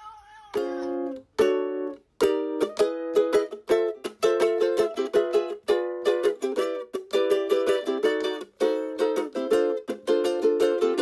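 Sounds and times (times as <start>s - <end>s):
strummed string instrument: 0.5s - 11.0s.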